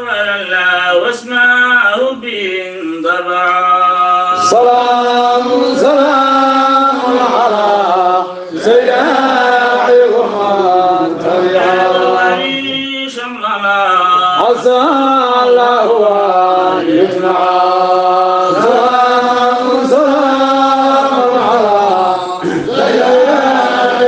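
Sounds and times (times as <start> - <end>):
devotional chanting: 0.0 - 24.0.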